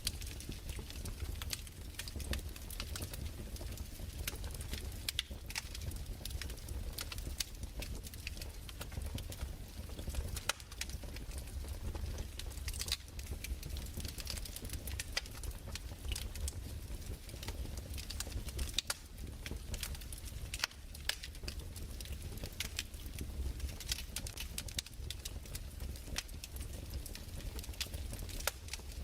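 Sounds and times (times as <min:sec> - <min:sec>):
low fire rumble: 0:00.0 - 0:29.0.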